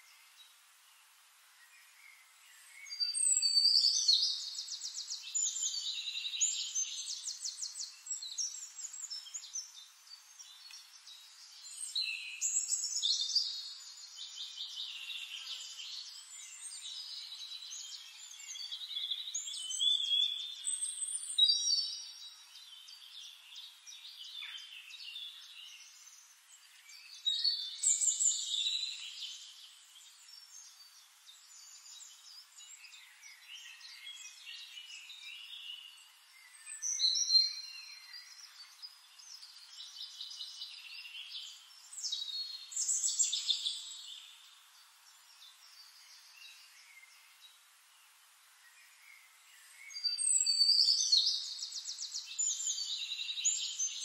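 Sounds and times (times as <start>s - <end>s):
songbirds singing trilled phrases: 0.0s - 54.0s.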